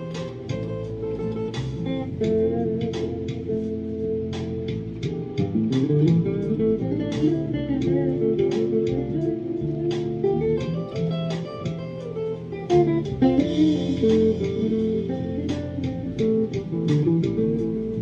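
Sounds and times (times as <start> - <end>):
electric guitar picked notes: 0.0 - 18.0.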